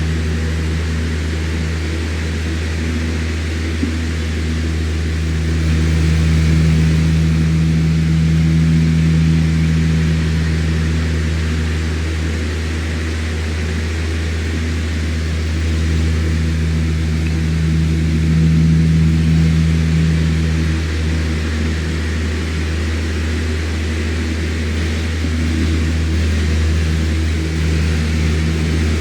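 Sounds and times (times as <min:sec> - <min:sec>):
electric fan running: 0:00.0 - 0:29.0.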